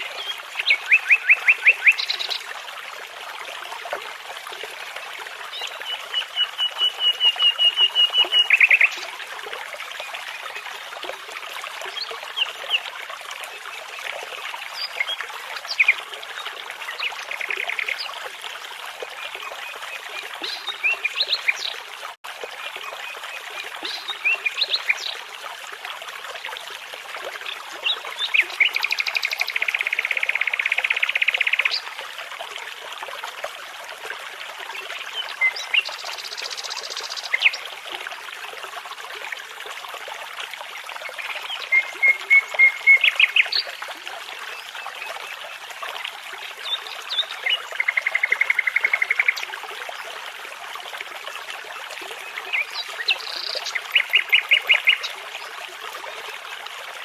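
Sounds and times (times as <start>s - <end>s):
babbling brook: 0.0s - 57.0s.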